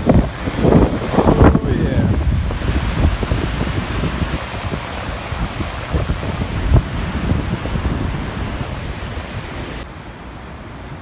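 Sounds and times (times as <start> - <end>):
river rushing over boulders: 0.0 - 11.0
wind buffeting microphone: 0.0 - 11.0.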